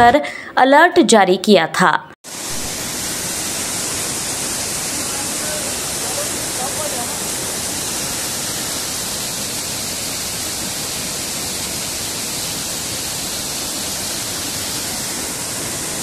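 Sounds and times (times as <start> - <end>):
rush of rainwater runoff: 2.2 - 16.0.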